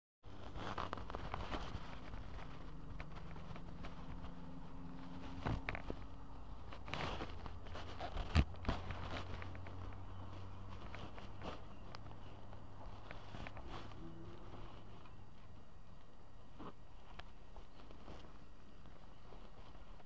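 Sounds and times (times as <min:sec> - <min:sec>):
steady low hum: 0:00.3 - 0:20.0.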